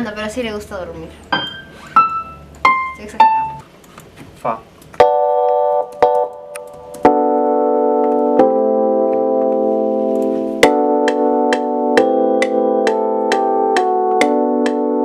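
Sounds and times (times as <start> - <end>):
sustained keyboard chords: 0.0 - 3.8, 4.6 - 15.0.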